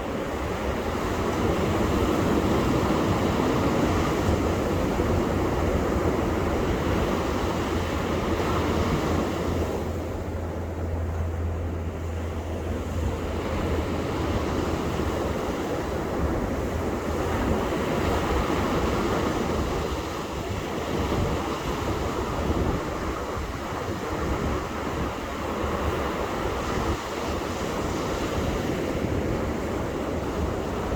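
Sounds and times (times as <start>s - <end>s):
waves breaking on a beach: 0.0s - 30.9s
wind buffeting microphone: 0.0s - 30.9s.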